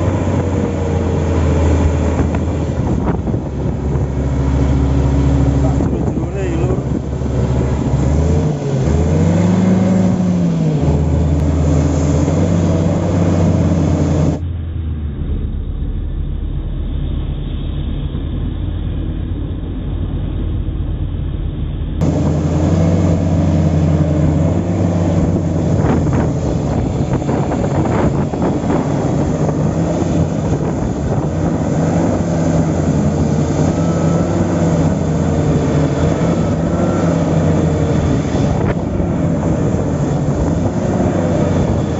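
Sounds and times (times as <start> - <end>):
diesel bulldozer engine: 0.0 - 41.9.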